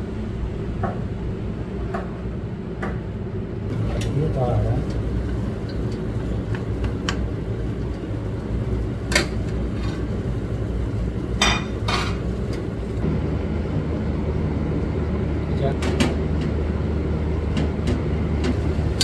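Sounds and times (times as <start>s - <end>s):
steady low rumble: 3.2s - 19.0s.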